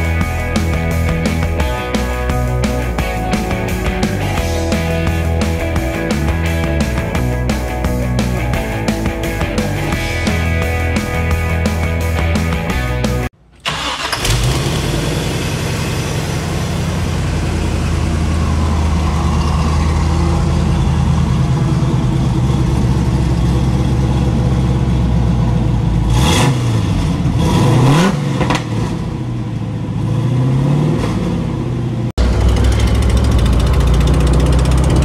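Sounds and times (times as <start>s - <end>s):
car engine idling: 0.0s - 27.6s, 31.3s - 35.0s
car engine revving: 0.0s - 35.0s
car engine starting: 0.0s - 35.0s.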